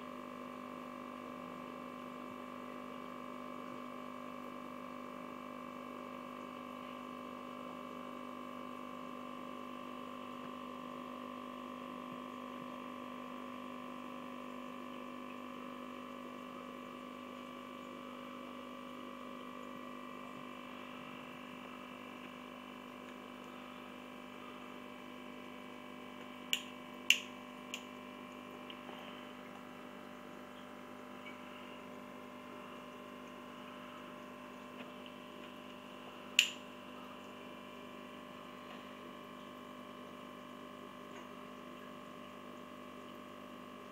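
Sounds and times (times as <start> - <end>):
aquarium equipment humming: 0.0 - 43.9.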